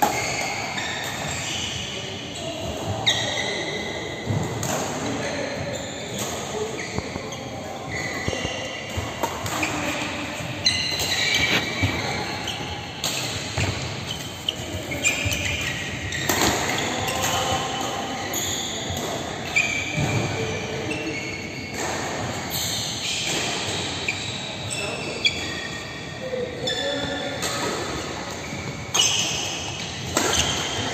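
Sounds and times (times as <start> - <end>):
shoes squeaking on court: 0.0 - 30.9.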